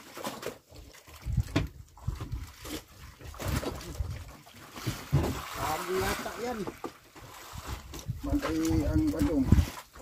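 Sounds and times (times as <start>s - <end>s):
water splashing: 0.0s - 10.0s
knocks and thumps on boat: 0.1s - 10.0s.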